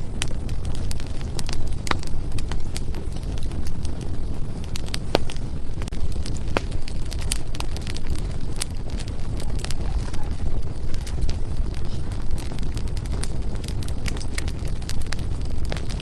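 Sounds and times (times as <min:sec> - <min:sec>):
fire rumbling: 0:00.0 - 0:16.0
firewood crackling and popping: 0:00.0 - 0:16.0.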